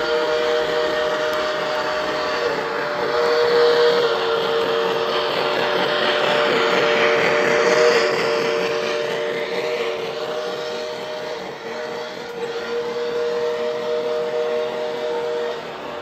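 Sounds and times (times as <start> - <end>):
model train chord of tones: 0.0 - 16.0
model train running noise: 0.0 - 16.0.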